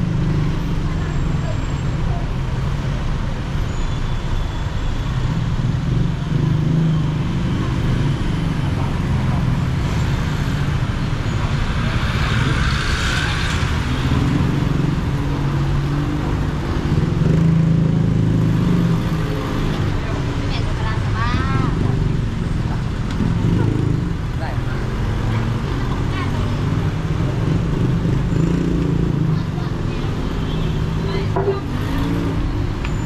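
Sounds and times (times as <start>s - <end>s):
vehicle engines humming: 0.0s - 33.0s.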